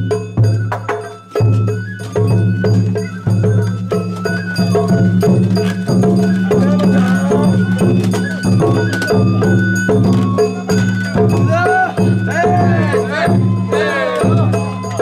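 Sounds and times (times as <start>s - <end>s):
drum strikes: 0.0s - 14.6s
sliding melody notes: 0.3s - 15.0s.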